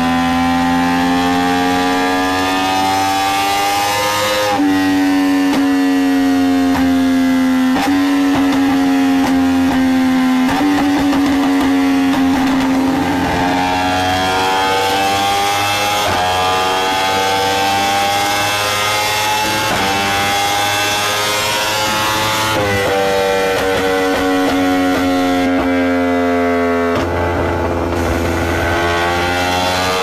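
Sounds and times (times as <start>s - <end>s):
motorcycle engine revving on a dyno: 0.0s - 30.0s.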